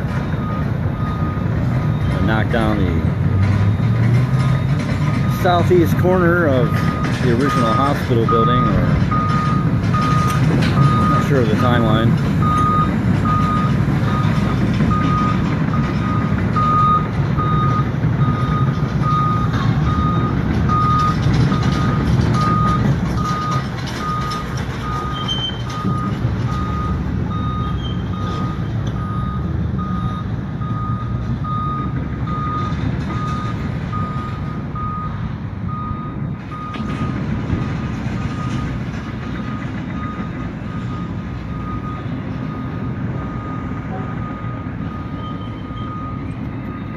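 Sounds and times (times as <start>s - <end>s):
heavy engine rumbling: 0.0s - 46.9s
vehicle backup alarm beeping: 0.0s - 46.9s.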